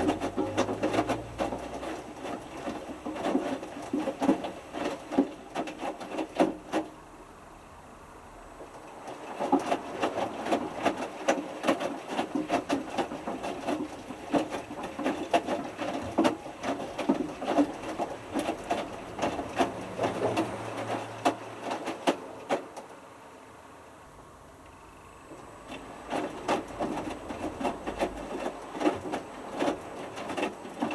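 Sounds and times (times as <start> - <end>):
washing machine drum tumbling: 0.0 - 6.9, 8.6 - 22.8, 25.3 - 30.9
water sloshing: 0.0 - 6.9, 8.4 - 22.8, 24.8 - 30.9
knocks and clatter in drum: 0.0 - 7.0, 8.6 - 22.8, 25.3 - 30.9.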